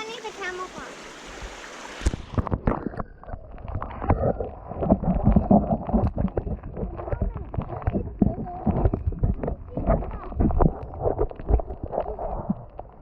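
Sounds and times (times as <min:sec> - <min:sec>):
muffled underwater water rumble: 0:00.4 - 0:13.0
underwater knocks and bumps: 0:01.4 - 0:13.0.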